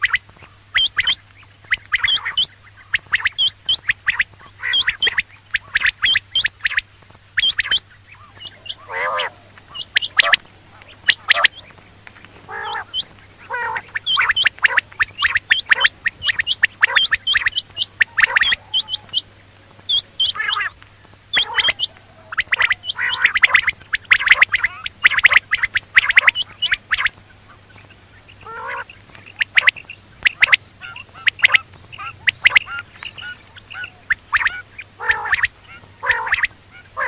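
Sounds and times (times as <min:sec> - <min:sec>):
faint low hum: 0:00.0 - 0:37.0
harsh chattering calls: 0:00.0 - 0:37.0
quails calling: 0:00.0 - 0:37.0.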